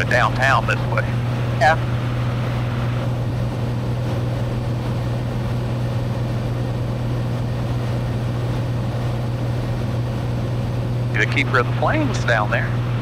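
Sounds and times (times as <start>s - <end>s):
aircraft engine and propeller drone: 0.0s - 13.0s.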